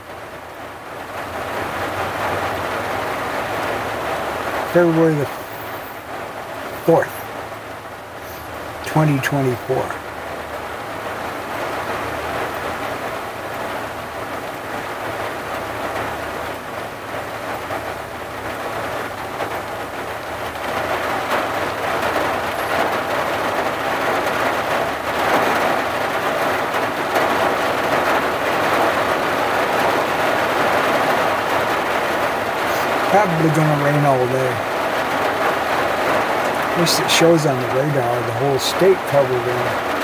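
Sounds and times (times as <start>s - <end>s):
rain on vehicle windshield and roof: 0.0s - 40.0s.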